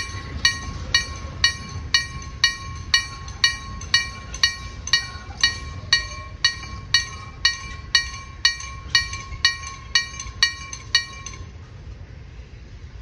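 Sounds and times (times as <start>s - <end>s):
level crossing warning bell: 0.0s - 11.6s.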